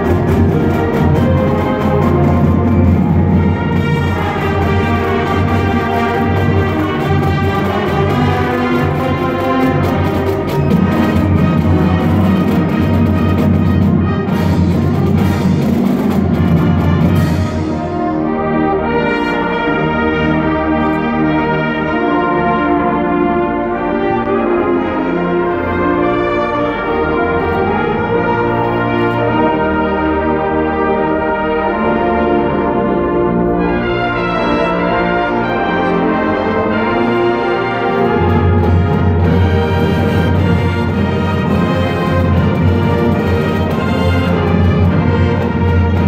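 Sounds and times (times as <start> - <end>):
brass sustained chords: 0.0 - 46.0
marching band playing: 0.0 - 46.0.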